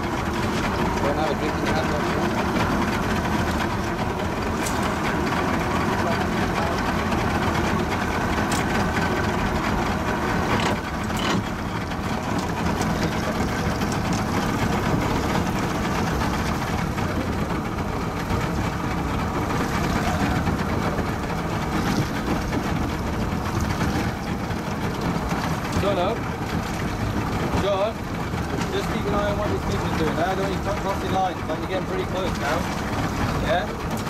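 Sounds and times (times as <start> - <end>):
outboard motor idling: 0.0 - 34.0
water noise: 0.0 - 34.0
wind: 0.0 - 34.0.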